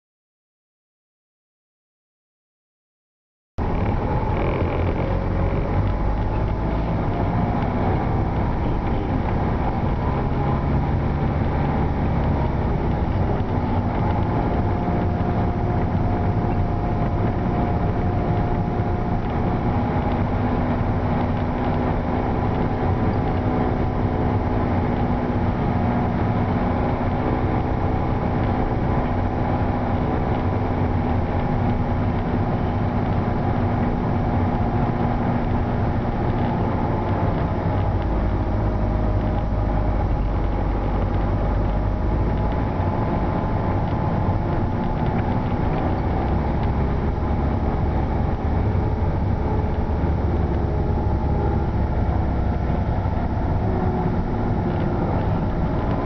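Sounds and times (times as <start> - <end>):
car engine and road noise: 3.6 - 56.0.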